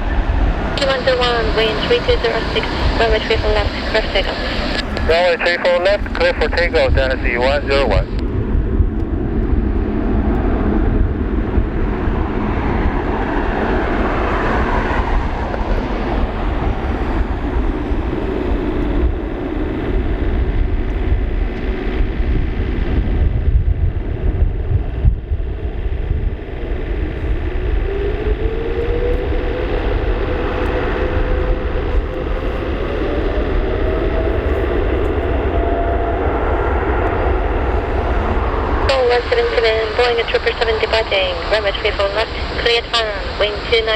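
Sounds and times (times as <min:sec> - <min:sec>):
jet engines at takeoff thrust: 0:00.0 - 0:43.9.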